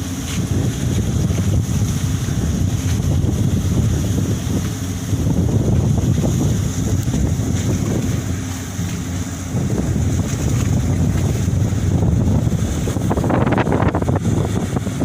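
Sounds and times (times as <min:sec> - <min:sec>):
ferry engine low rumble: 0:00.0 - 0:15.0
wind buffeting microphone: 0:00.0 - 0:15.0.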